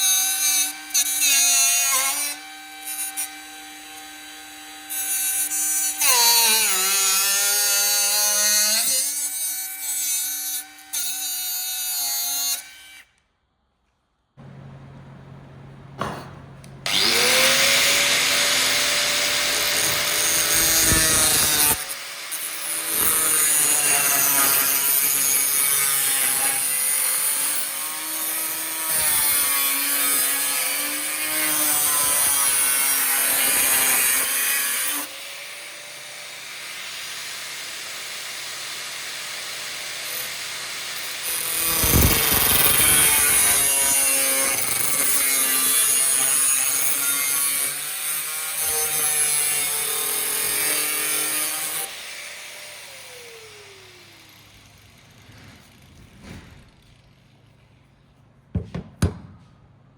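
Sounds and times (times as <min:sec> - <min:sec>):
angle grinder cutting steel: 0:00.0 - 0:13.1, 0:16.6 - 0:56.1.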